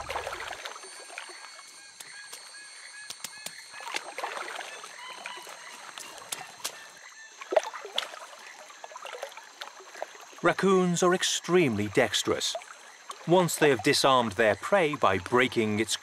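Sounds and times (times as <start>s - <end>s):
water splashing and dripping: 0.0s - 16.0s.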